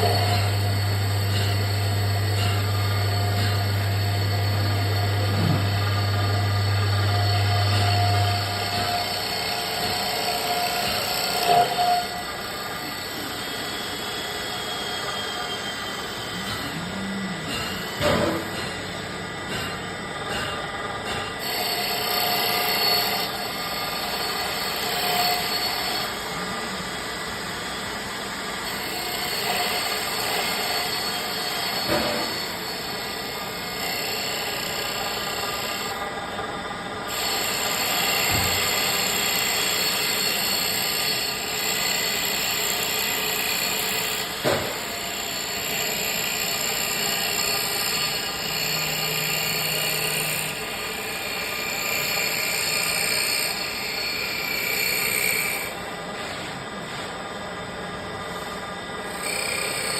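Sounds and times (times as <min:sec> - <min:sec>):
woodworking machine whining: 0:00.0 - 0:59.9.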